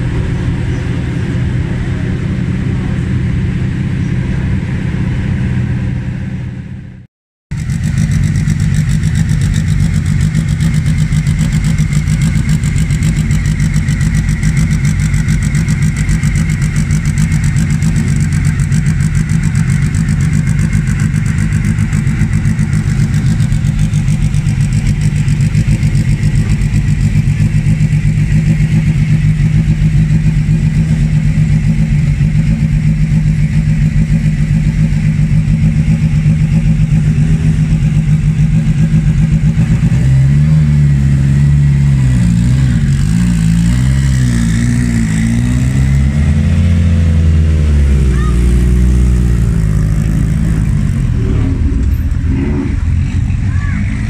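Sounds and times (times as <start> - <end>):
race car engine idling: 0.0 - 45.6, 46.2 - 54.0.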